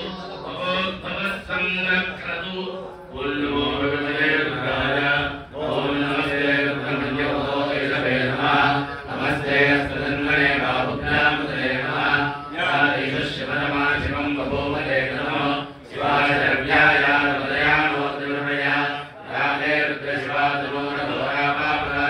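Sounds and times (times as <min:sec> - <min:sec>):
men chanting mantras: 0:00.0 - 0:22.0.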